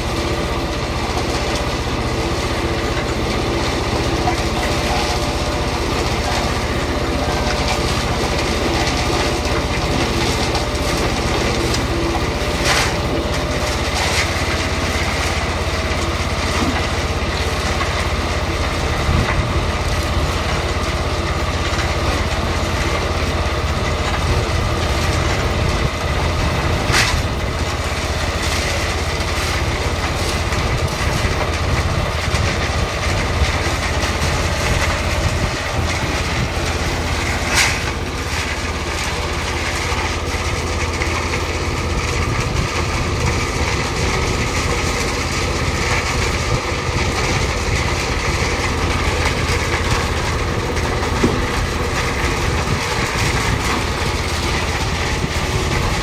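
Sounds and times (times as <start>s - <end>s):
construction machine engine running: 0.0s - 56.0s.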